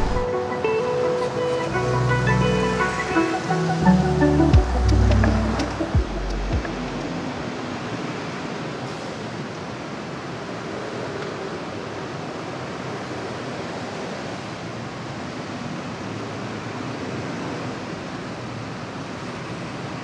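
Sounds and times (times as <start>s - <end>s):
city traffic noise: 0.0s - 20.0s.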